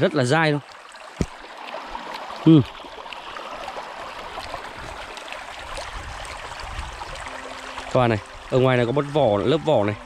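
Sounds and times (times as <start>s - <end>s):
creek water over stones: 0.0s - 10.0s.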